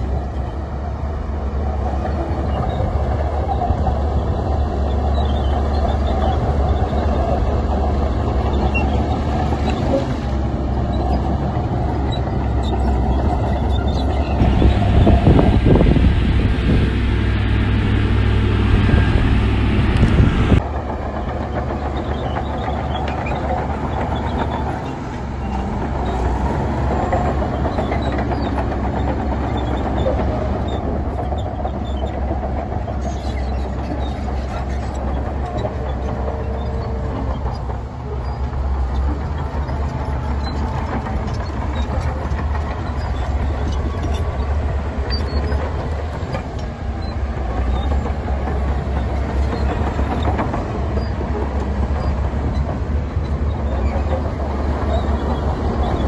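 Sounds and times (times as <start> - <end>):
diesel earthmoving machinery rumbling: 0.0 - 56.0.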